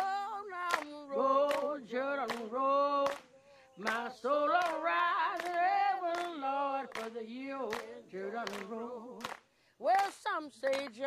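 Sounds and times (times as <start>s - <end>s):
person singing unaccompanied: 0.0s - 11.0s.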